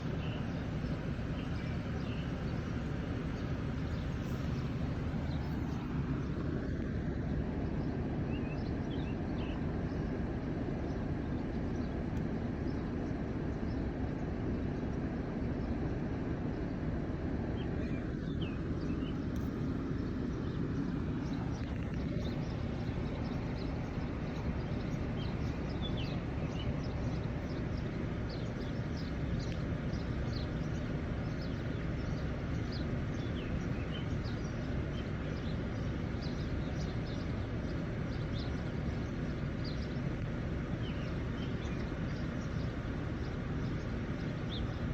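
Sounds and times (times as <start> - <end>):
low rumbling background noise: 0.0 - 44.9.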